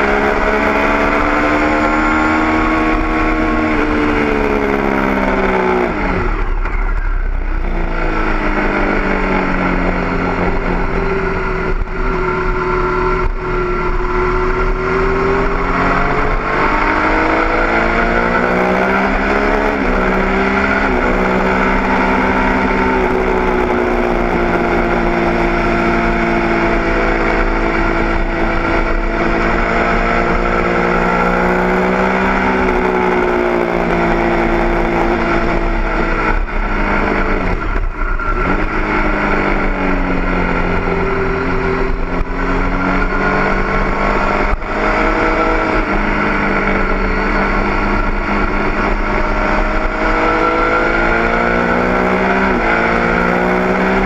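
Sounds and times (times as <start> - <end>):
motorcycle engine at speed: 0.0 - 54.0.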